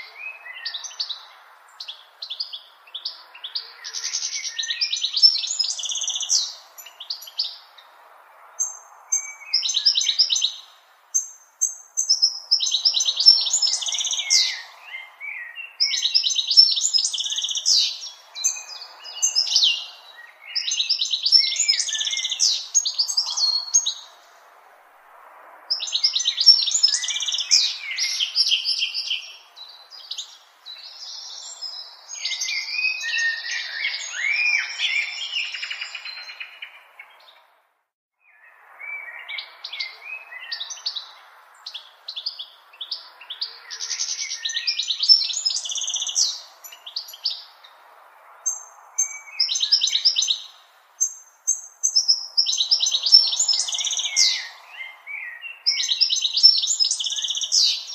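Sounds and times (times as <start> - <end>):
bird twittering song: 0.0 - 24.3, 25.7 - 37.5, 38.2 - 47.7, 48.4 - 57.9.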